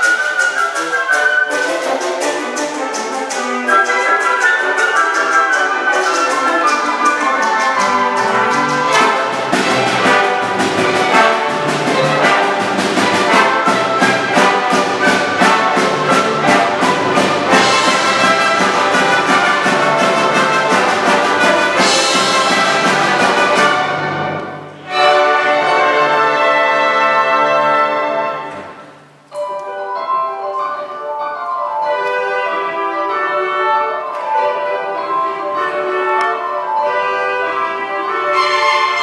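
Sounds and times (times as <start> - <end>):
trumpets and trombones: 0.0 - 29.1, 31.8 - 39.0
orchestra playing lively music: 0.0 - 39.0.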